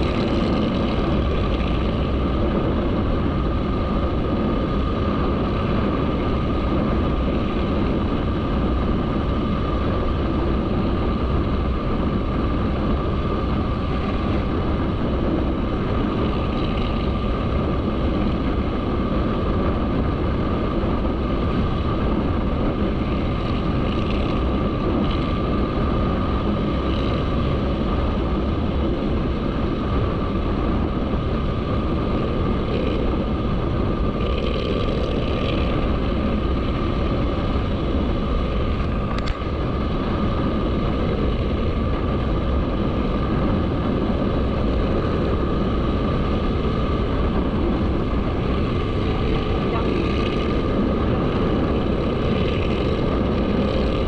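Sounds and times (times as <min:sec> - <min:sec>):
motorcycle engine drone: 0:00.0 - 0:54.0
road and wind noise: 0:00.0 - 0:54.0.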